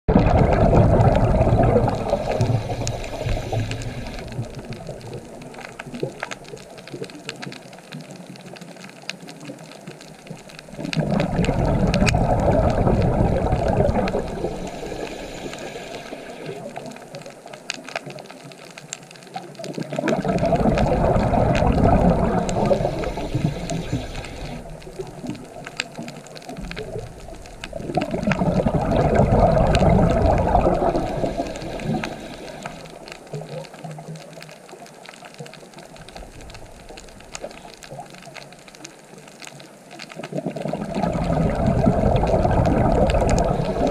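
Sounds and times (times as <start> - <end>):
underwater bubbles burbling: 0.1 - 43.9
faint clicks: 0.2 - 43.9.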